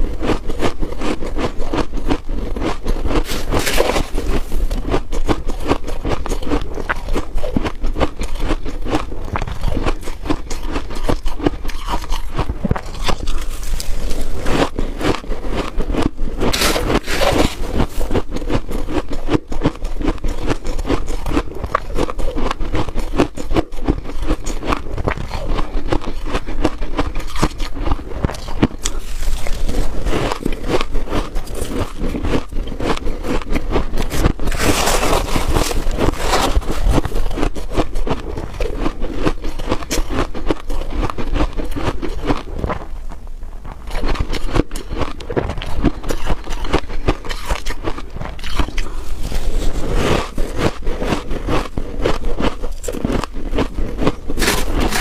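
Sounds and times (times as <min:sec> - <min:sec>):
frost crunching and crackling: 0:00.2 - 0:43.1, 0:43.8 - 0:55.0.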